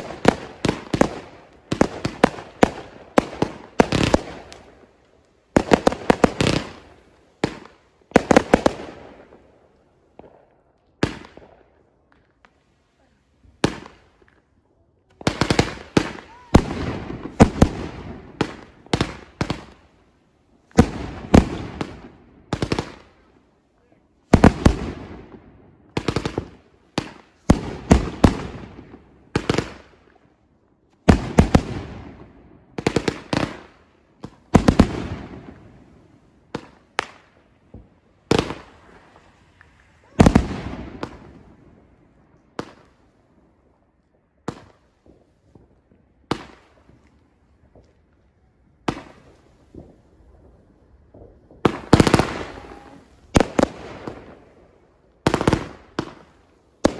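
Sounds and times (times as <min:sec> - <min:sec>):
fireworks banging: 0:00.0 - 0:12.7, 0:13.4 - 0:23.3, 0:24.2 - 0:30.1, 0:31.0 - 0:43.2, 0:44.2 - 0:56.9.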